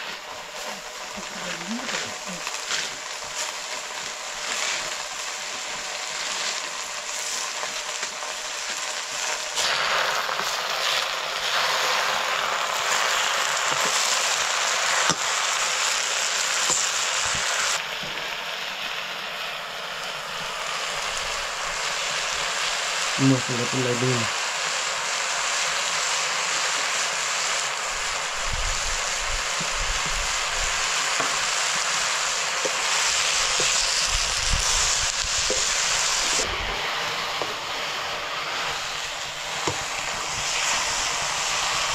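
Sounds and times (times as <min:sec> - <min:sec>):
food sizzling in hot oil: 0:00.0 - 0:41.9.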